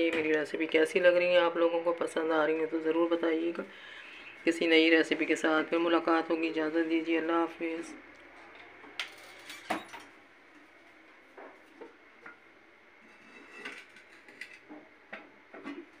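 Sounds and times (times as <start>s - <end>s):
faint room hiss: 0.0s - 16.0s.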